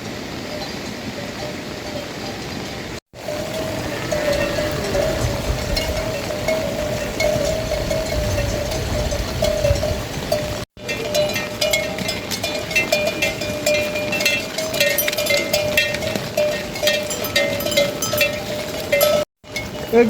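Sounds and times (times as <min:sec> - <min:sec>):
livestock bells clanking: 0:00.4 - 0:20.0
low ringing tone: 0:03.2 - 0:19.8.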